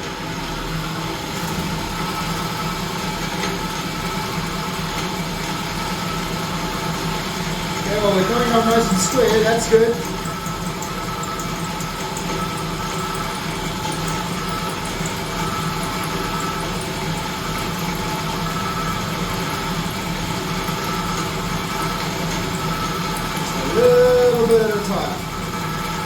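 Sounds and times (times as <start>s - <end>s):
milling machine running: 4.2s - 26.0s.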